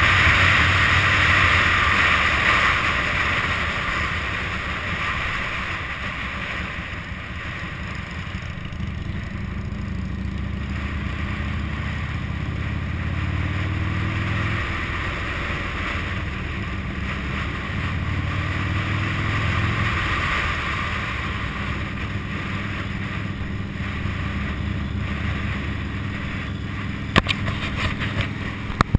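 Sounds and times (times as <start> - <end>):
motorcycle engine accelerating: 0.0 - 28.9
wind rushing over microphone: 0.0 - 28.9.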